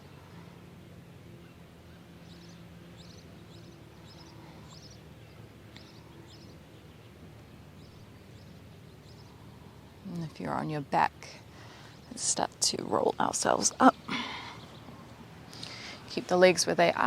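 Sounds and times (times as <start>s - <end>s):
faint bird chirping: 0.0s - 17.0s
steady low hum: 0.0s - 17.0s.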